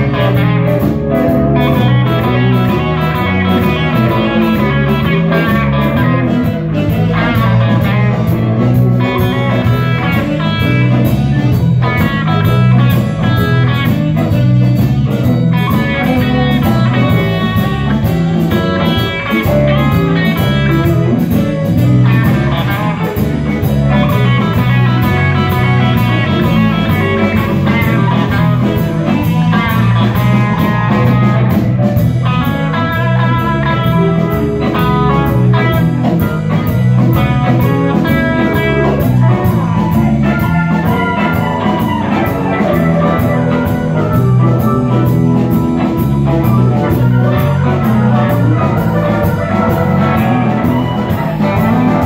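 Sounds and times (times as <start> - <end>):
drum kit beat: 0.0 - 52.0
electric guitar: 0.0 - 52.0.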